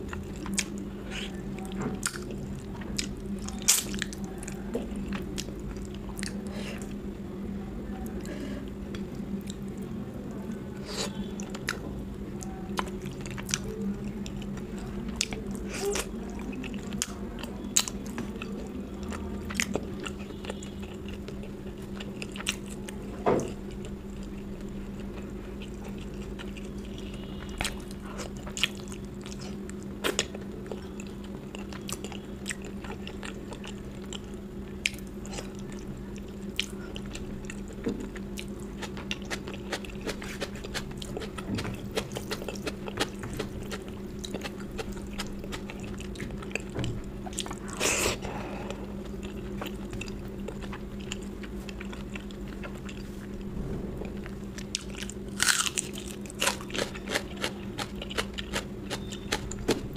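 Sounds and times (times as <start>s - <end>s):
person chewing: 0.0s - 7.0s, 12.4s - 53.6s, 54.2s - 59.9s
low hum: 0.0s - 59.9s.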